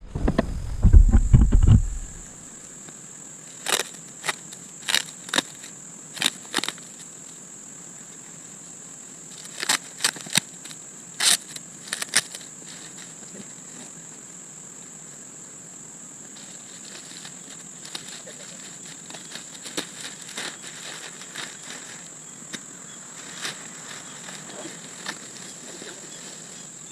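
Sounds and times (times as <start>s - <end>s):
insects shrilling: 1.8s - 26.9s.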